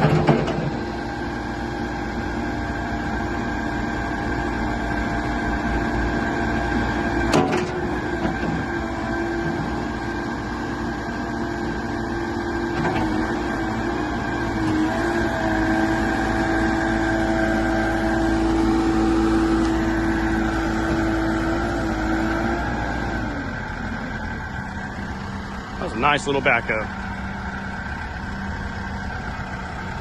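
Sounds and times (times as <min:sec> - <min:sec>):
diesel engine running under load: 0:00.0 - 0:30.0
steady mechanical whine: 0:00.0 - 0:30.0.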